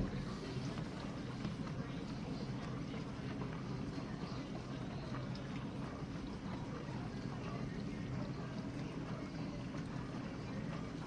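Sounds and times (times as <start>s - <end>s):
dishwasher low hum: 0.0s - 11.0s.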